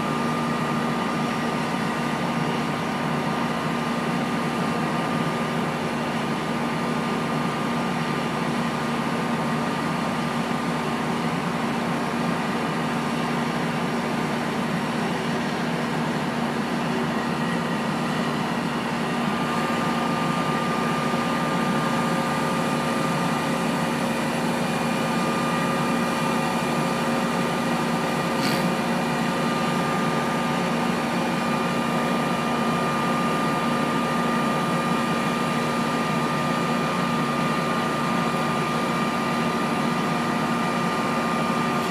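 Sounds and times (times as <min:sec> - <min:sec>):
truck engine and hydraulics droning: 0:00.0 - 0:41.9.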